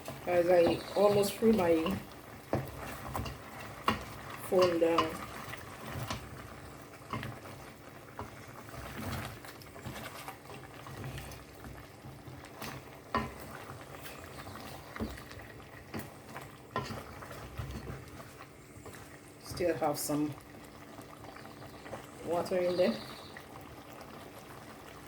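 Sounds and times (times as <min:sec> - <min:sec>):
pot simmering with low bubbling: 0:00.0 - 0:25.0.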